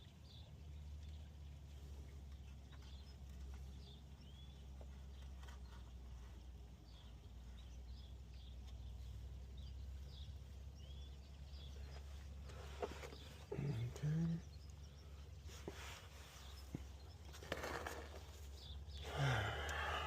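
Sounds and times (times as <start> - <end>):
faint bird chirps: 0.0 - 20.0
low background hum: 0.0 - 20.0.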